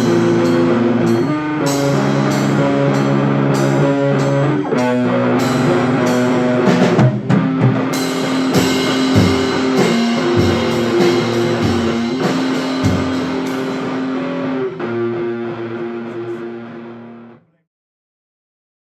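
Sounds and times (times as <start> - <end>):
rock band playing: 0.0 - 17.4.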